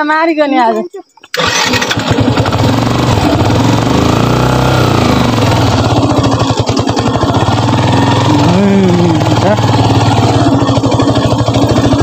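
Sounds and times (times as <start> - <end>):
motorcycle engine revving: 1.3 - 12.0.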